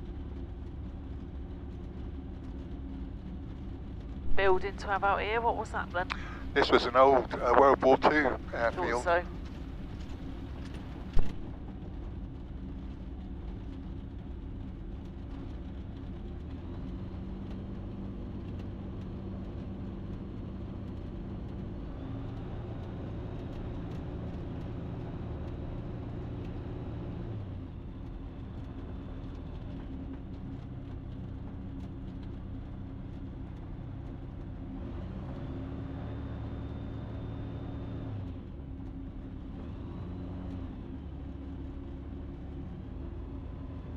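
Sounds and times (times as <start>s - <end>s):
light aircraft engine running: 0.0s - 43.9s.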